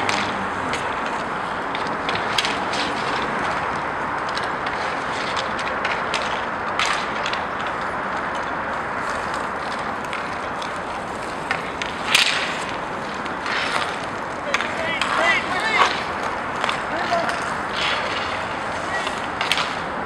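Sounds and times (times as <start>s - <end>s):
skate wheels rolling: 0.0s - 20.0s
sticks and puck clacking: 0.0s - 20.0s.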